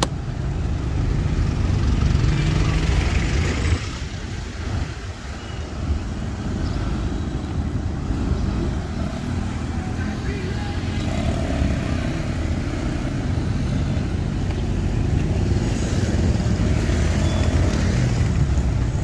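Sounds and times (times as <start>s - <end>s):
steady traffic noise: 0.0s - 19.0s.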